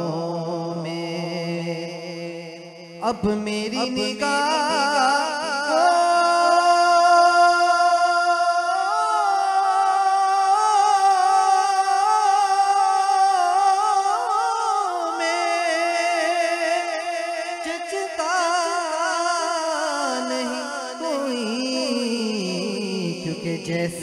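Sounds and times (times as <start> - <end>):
man singing long ornamented note: 0.0 - 24.0.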